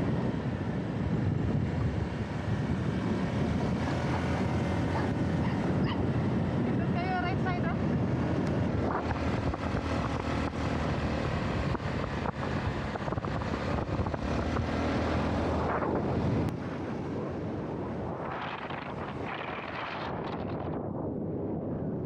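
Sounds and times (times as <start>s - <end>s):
motorcycle engine running: 0.0s - 20.0s
wind rushing over microphone: 0.0s - 22.0s.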